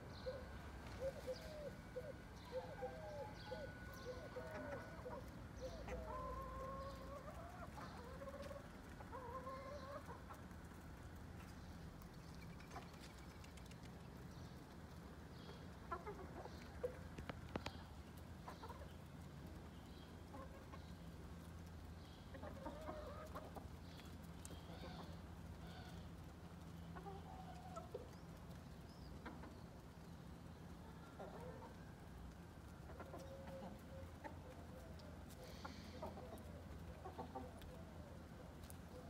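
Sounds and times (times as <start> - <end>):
chickens clucking: 0.0 - 39.0
low steady hum: 0.0 - 39.0.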